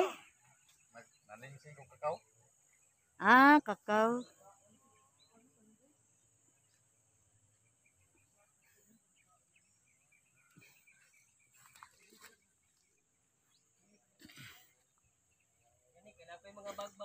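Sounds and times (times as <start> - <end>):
faint chirps: 0.0 - 17.0.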